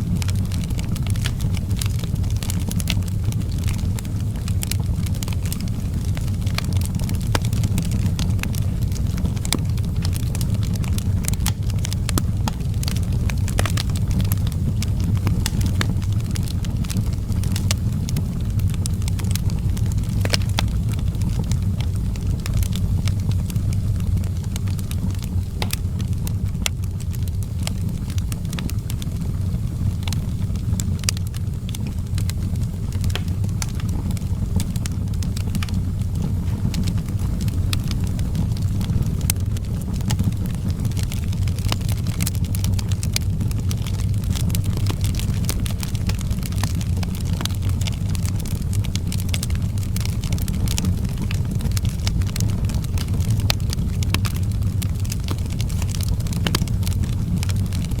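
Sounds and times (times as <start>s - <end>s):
wood fire burning: 0.0s - 58.0s.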